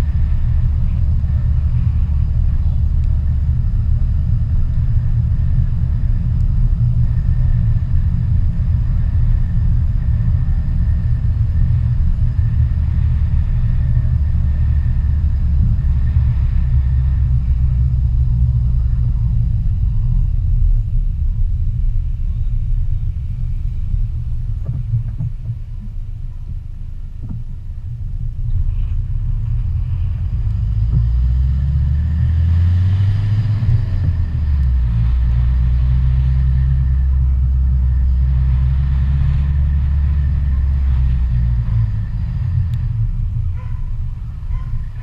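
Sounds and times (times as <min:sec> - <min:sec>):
engine drone: 0:00.0 - 0:45.0
road noise rumble: 0:00.0 - 0:45.0.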